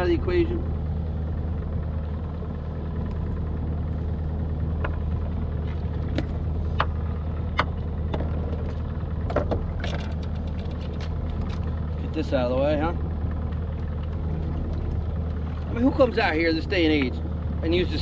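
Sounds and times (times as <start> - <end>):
outboard motor idling: 0.0 - 18.0.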